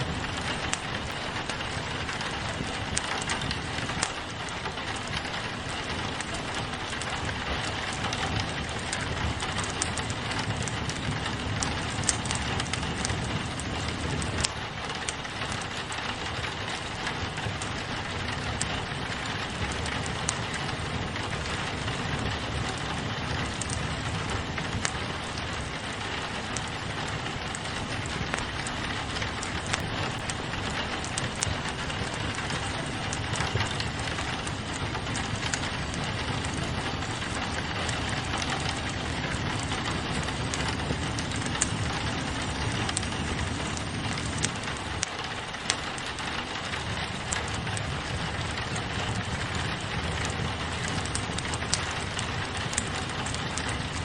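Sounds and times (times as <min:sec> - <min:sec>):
rain pattering on a window: 0:00.0 - 0:54.0
sharp pops and snaps: 0:00.0 - 0:54.0
wood fire crackling: 0:00.0 - 0:54.0.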